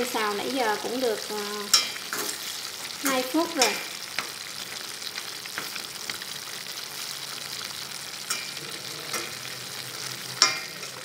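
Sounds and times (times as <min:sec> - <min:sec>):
liver and onion sizzling: 0:00.0 - 0:11.0.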